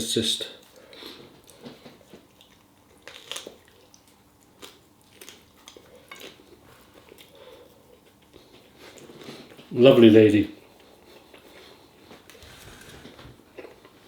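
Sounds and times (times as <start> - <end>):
person chewing food: 0.6 - 9.6, 10.7 - 14.0.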